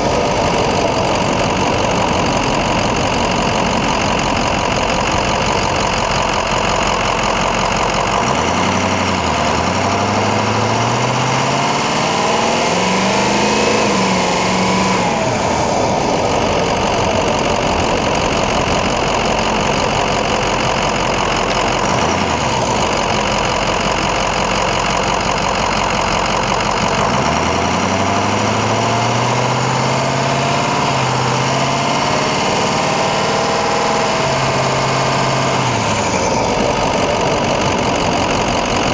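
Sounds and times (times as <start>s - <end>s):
diesel truck engine revving: 0.0s - 38.9s.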